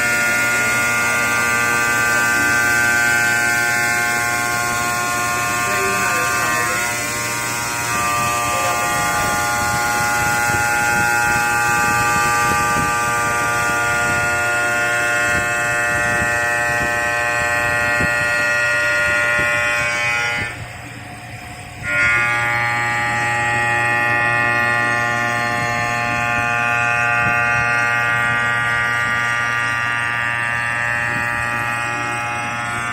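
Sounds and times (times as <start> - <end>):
stone machining center whining: 0.0 - 32.9.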